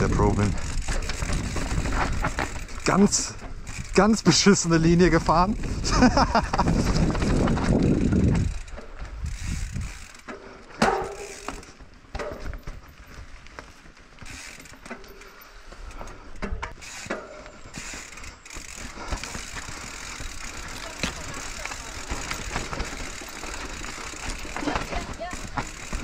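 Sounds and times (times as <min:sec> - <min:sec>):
bicycle freewheel clicking: 0:00.0 - 0:11.8, 0:14.1 - 0:26.0
bike chain and frame rattling: 0:00.0 - 0:26.0
bike riding rumble: 0:00.0 - 0:26.0.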